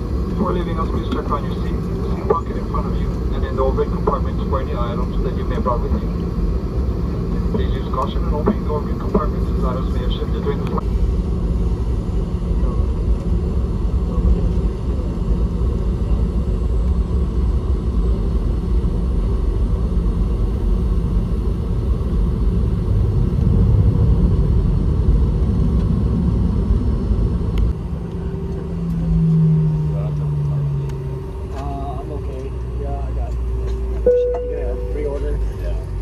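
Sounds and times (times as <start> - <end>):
continuous hum: 0.0 - 36.0
low rumble in airliner cabin: 0.0 - 36.0.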